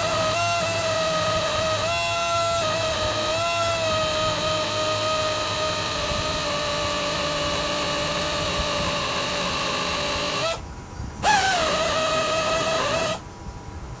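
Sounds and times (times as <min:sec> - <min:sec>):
power tool whining: 0:00.0 - 0:10.6, 0:11.2 - 0:13.2.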